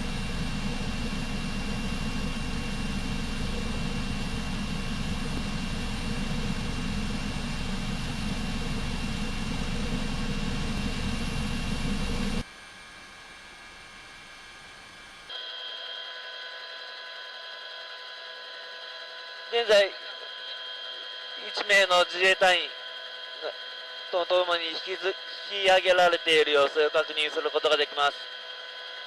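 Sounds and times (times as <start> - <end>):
helicopter engine and rotor: 0.0 - 29.0.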